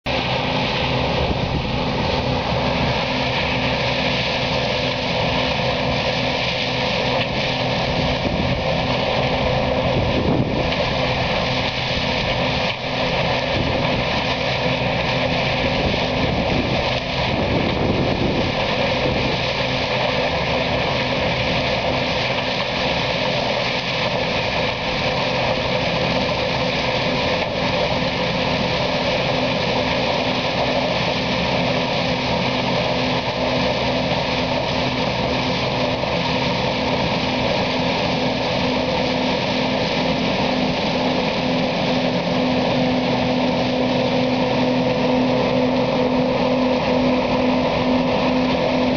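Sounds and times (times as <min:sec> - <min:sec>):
combine harvester engine drone: 0:00.0 - 0:48.9
dense rushing noise: 0:00.1 - 0:48.9.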